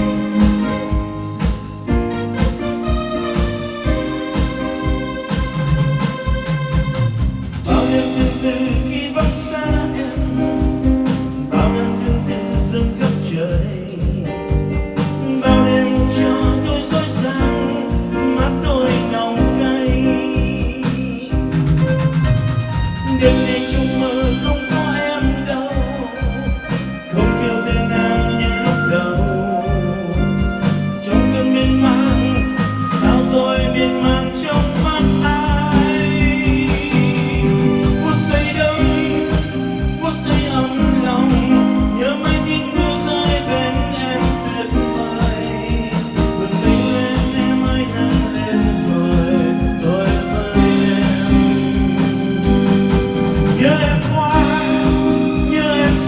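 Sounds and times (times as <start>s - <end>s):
person singing: 0.0s - 6.0s, 7.6s - 22.3s, 23.0s - 56.0s
song with steady beat: 0.0s - 56.0s.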